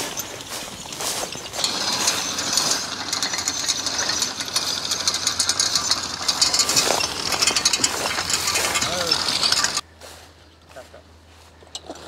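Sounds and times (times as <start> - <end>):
mower knife clattering: 0.0 - 9.8.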